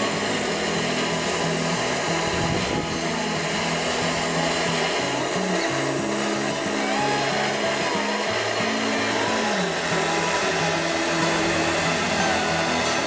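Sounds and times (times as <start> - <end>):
steady rushing hiss: 0.0 - 13.0.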